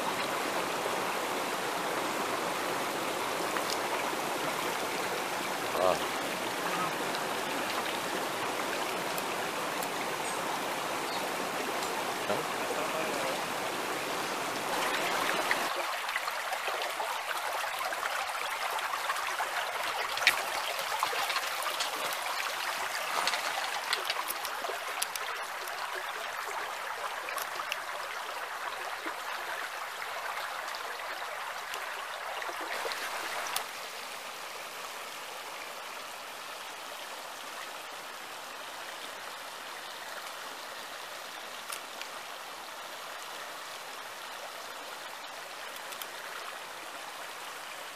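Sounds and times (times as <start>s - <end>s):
stream running over stones: 0.0s - 47.9s.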